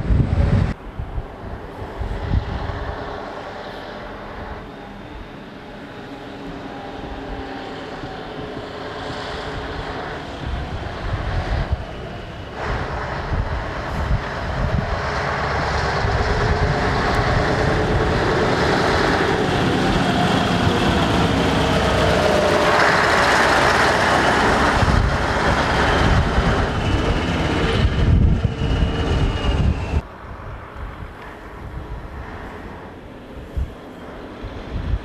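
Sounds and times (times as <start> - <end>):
wind: 0.0 - 35.0
distant engine: 1.6 - 30.2
lorry diesel engine passing: 1.6 - 30.6.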